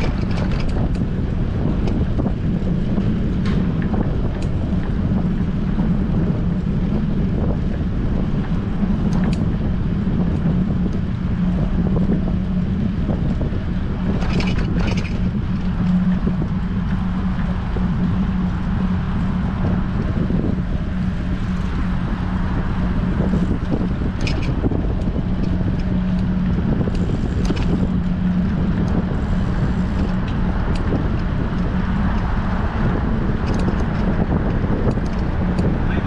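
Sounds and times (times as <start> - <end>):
constant low hum: 0.0 - 36.0
wind rushing over microphone: 0.0 - 36.0.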